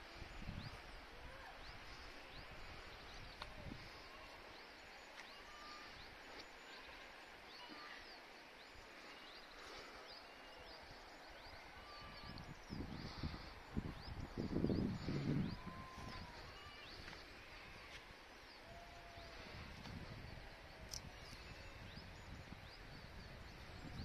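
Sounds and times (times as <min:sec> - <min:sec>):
faint bird chirping: 0:00.0 - 0:24.0.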